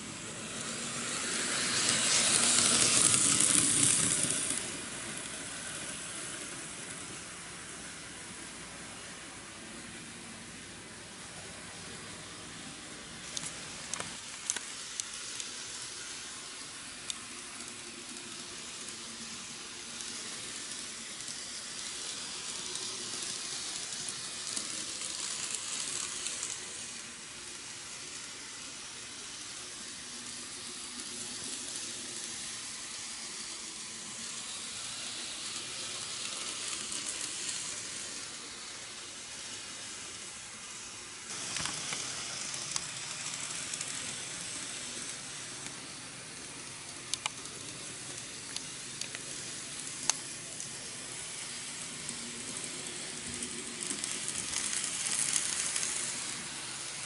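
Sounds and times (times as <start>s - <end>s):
model train hissing on rails: 0.0s - 57.0s.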